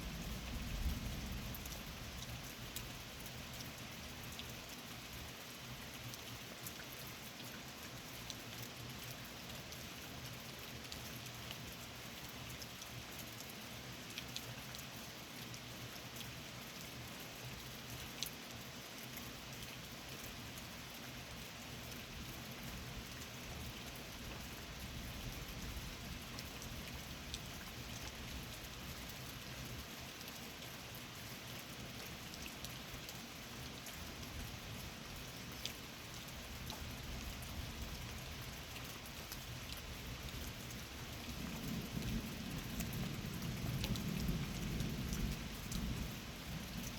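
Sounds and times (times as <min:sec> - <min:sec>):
raindrops ticking on a surface: 0:00.0 - 0:46.9
steady rain: 0:00.0 - 0:46.9.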